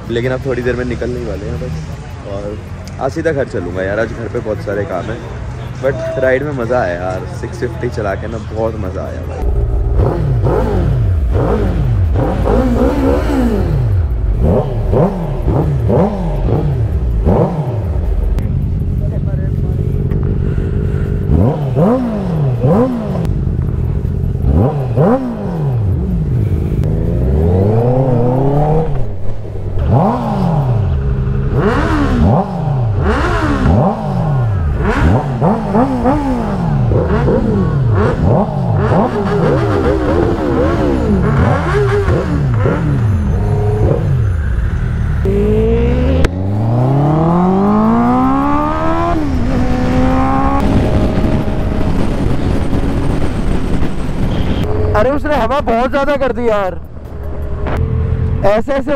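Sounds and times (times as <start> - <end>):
motorcycle accelerating: 0.0 - 58.9
superbike engines revving: 0.0 - 58.9.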